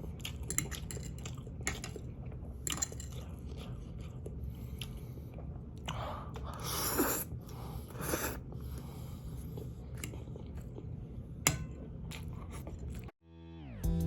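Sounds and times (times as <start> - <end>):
person chewing noodles: 0.0 - 13.2.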